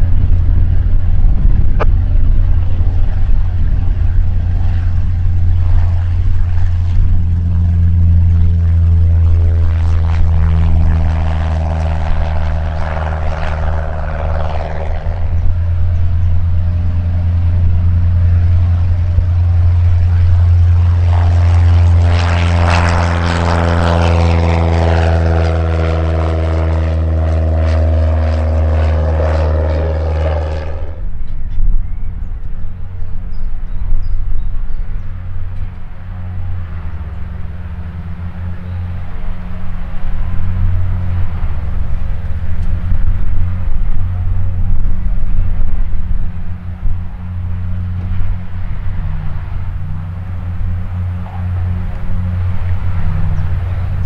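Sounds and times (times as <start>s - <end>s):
low rumble: 0.0s - 54.0s
propeller plane taking off: 0.0s - 54.0s.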